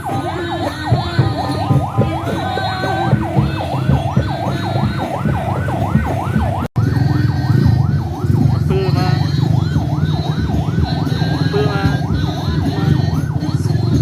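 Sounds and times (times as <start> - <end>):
electronic siren yelping: 0.0 - 14.0.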